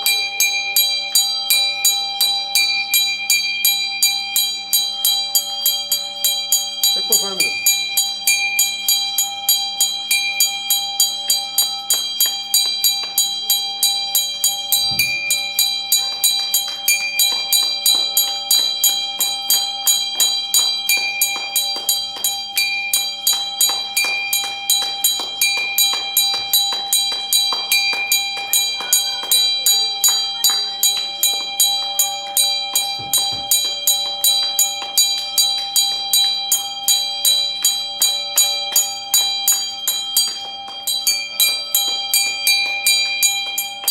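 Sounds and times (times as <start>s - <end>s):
bell ringing: 0.0s - 43.9s.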